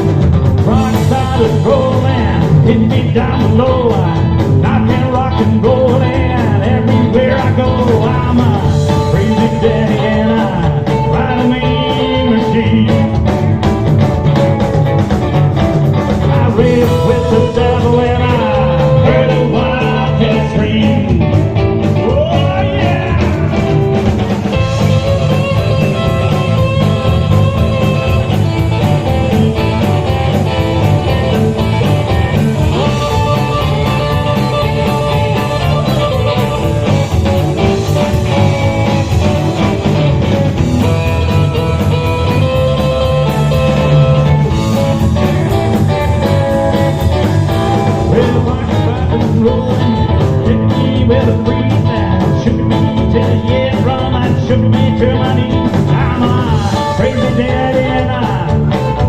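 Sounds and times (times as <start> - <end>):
bass and drum beat: 0.0 - 59.0
lead guitar: 0.0 - 59.0.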